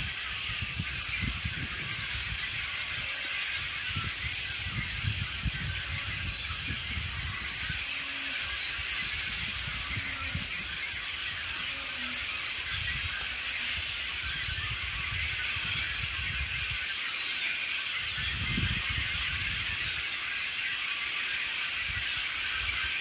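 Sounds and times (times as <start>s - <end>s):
wind rumble on microphone: 0.0s - 17.0s, 18.0s - 20.0s, 21.8s - 23.0s
songbirds chirping: 0.0s - 23.0s.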